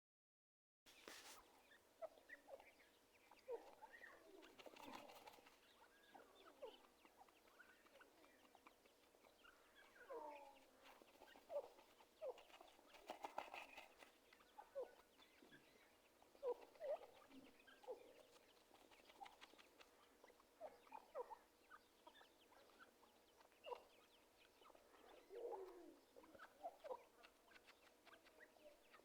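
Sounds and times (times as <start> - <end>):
partridge squeaky chirps: 1.1 - 29.0.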